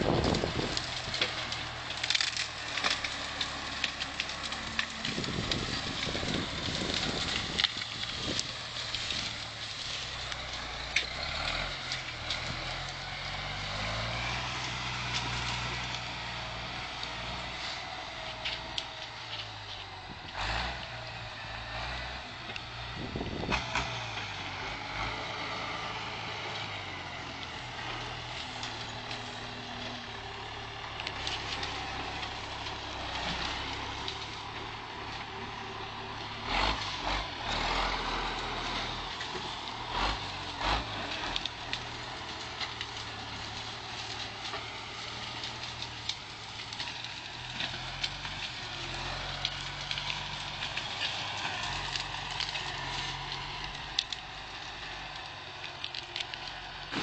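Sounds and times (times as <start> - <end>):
branches cracking and crunching: 0.0 - 57.0
tractor engine running: 0.0 - 57.0.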